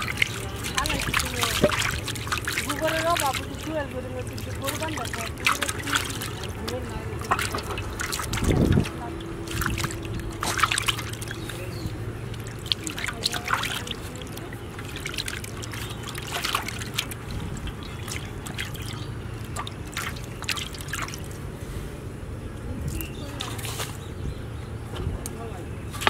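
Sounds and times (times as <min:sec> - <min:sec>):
water trickling and dripping: 0:00.0 - 0:21.5, 0:22.7 - 0:24.1
small water splashes: 0:00.0 - 0:21.8, 0:22.6 - 0:24.4.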